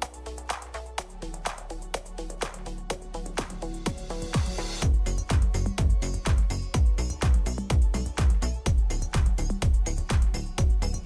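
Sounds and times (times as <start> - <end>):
electronic dance music: 0.0 - 11.0
heavy bass line: 0.0 - 11.0
kick drum: 0.0 - 11.0.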